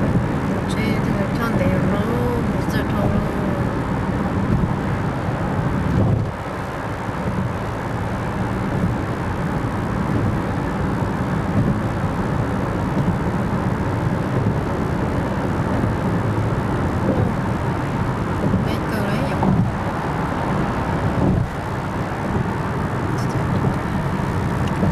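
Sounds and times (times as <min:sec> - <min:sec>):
car engine hum: 0:00.0 - 0:24.9
road and tyre noise: 0:00.0 - 0:24.9.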